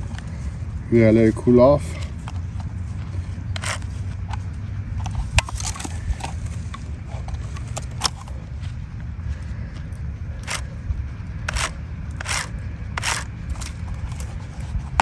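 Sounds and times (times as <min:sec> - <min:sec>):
handling clicks and scrapes: 0:00.0 - 0:08.8, 0:10.4 - 0:10.8, 0:11.4 - 0:15.0
low steady hum: 0:00.0 - 0:15.0.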